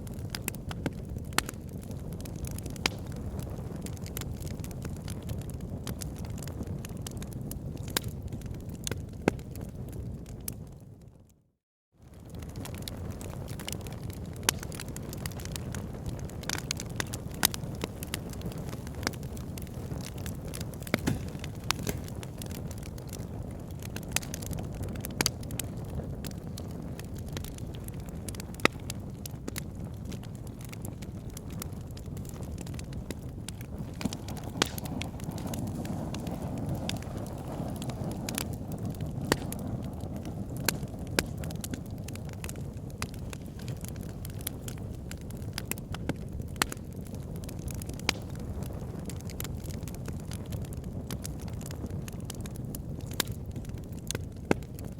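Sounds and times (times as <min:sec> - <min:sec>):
rush of flames: 0:00.0 - 0:10.7, 0:12.0 - 0:54.9
campfire crackling: 0:00.0 - 0:11.0, 0:12.0 - 0:54.9.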